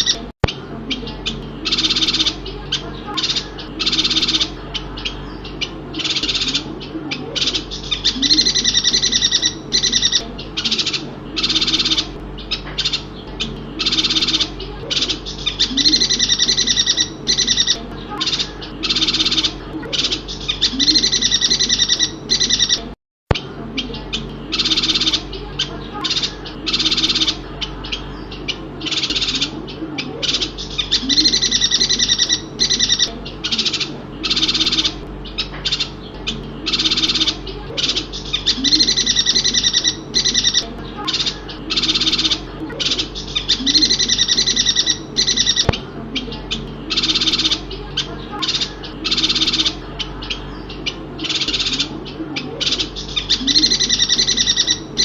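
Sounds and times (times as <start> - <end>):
bird chattering twitters: 0.0 - 55.0
faint low hum: 0.0 - 55.0.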